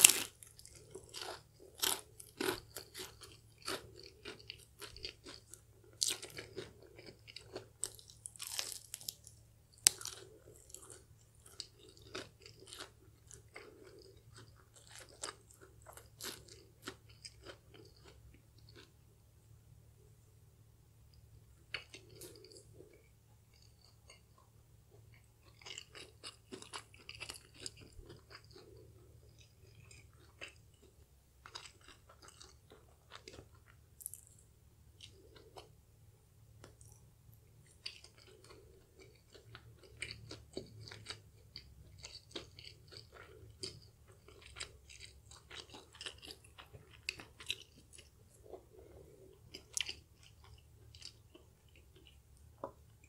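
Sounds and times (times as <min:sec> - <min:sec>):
chewing crispy fried chicken: 0:00.0 - 0:19.0, 0:21.2 - 0:35.8, 0:36.6 - 0:53.0.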